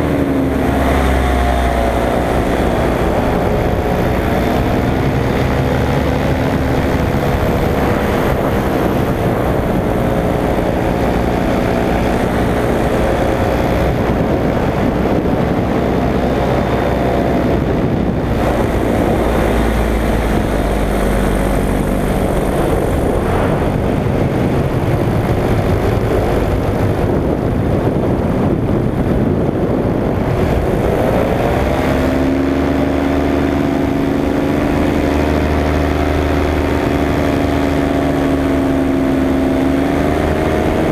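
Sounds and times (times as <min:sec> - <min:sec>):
paramotor engine and propeller: 0:00.0 - 0:40.9.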